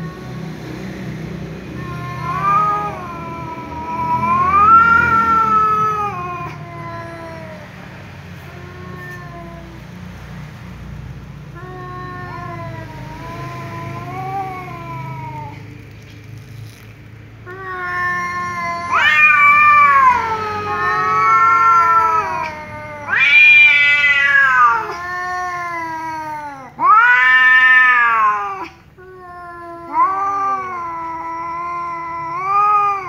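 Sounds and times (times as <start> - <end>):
cats yowling: 0.0 - 0.9, 1.5 - 10.3, 11.4 - 16.8, 17.4 - 33.0.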